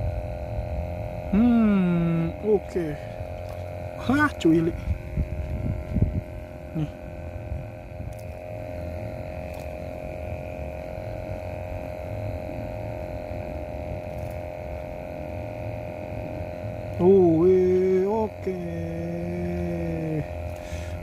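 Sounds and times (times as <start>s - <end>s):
loud low drone: 0.0s - 21.0s
steady mechanical hum: 0.0s - 21.0s.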